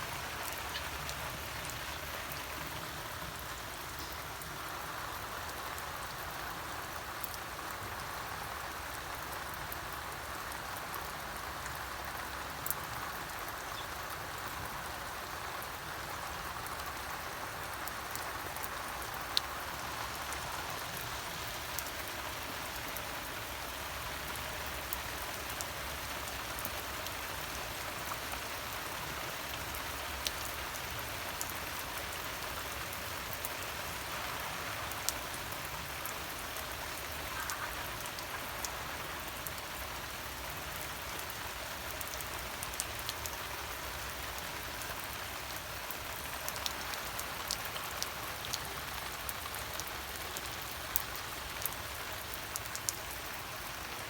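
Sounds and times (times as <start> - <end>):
rain-like hiss: 0.0 - 54.0.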